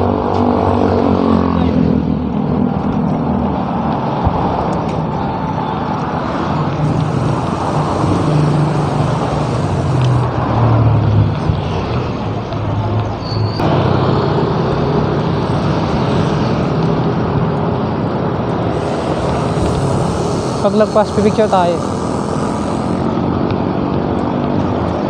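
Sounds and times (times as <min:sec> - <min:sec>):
traffic engines humming: 0:00.0 - 0:25.0.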